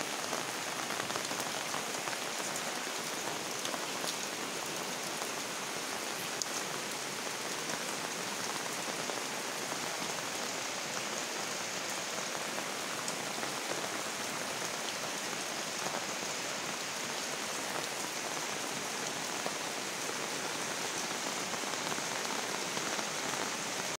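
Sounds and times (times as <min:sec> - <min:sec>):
rain falling on shrubs: 0:00.0 - 0:24.0.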